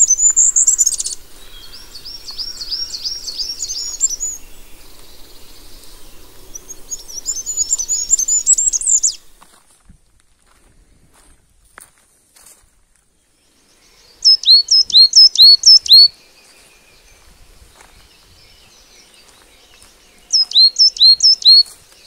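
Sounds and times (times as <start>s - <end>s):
songbird chirping: 0.0s - 9.7s, 11.9s - 22.0s.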